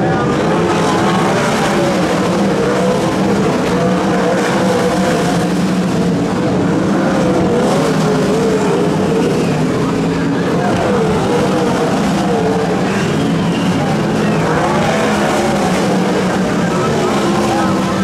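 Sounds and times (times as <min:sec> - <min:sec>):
race car engines running hard: 0:00.0 - 0:18.0.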